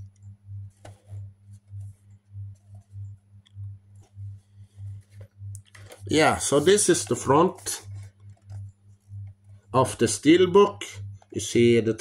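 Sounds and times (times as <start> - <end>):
pulsing low hum: 0.0 - 12.0.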